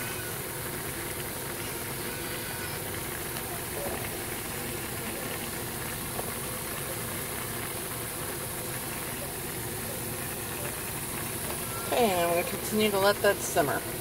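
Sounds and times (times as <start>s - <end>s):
machine-like hum: 0.0s - 14.0s
rice simmering in water: 0.0s - 14.0s.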